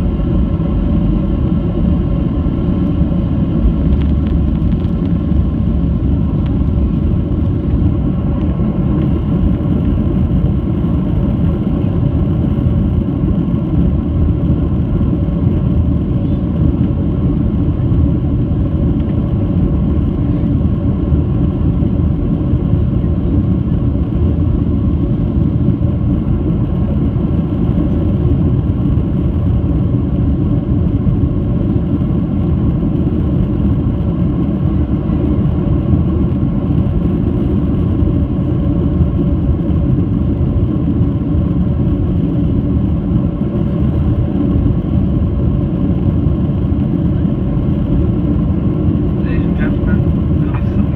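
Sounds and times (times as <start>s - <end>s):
airplane cabin engine roar: 0.0s - 50.9s
faint hum: 0.0s - 50.9s.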